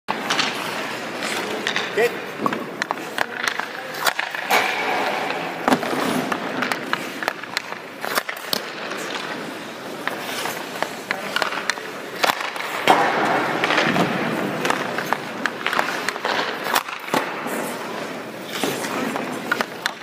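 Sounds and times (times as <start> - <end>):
pucks striking pads and boards: 0.1 - 20.0
skate blades scraping ice: 0.1 - 20.0
stick hitting pucks: 0.1 - 20.0.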